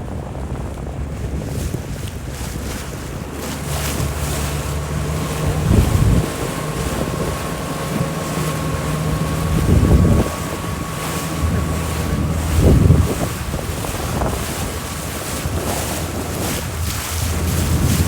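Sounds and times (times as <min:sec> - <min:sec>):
motorboat engine running: 0:00.0 - 0:18.0
water rushing past hull: 0:00.0 - 0:18.0
wind buffeting microphone: 0:00.0 - 0:18.0.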